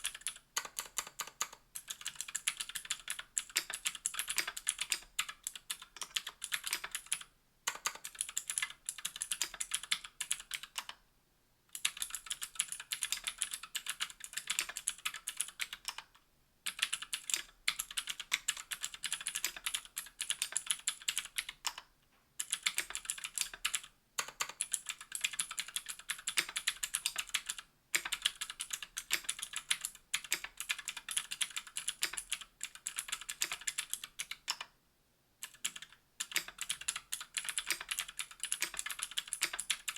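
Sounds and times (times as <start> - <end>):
clicky mechanical keyboard typing: 0.0 - 11.0, 11.7 - 34.7, 35.4 - 39.9.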